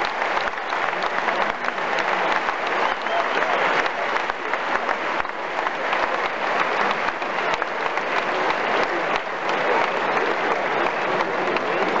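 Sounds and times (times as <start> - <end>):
stadium crowd applauding: 0.0 - 12.0.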